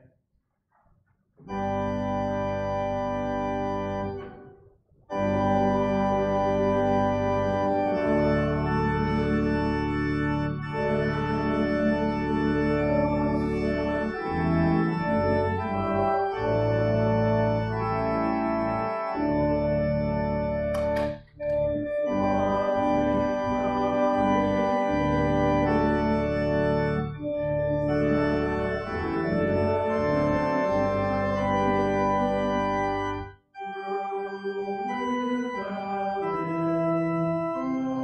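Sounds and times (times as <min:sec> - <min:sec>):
church organ playing chords: 0:01.4 - 0:04.5, 0:05.1 - 0:38.0.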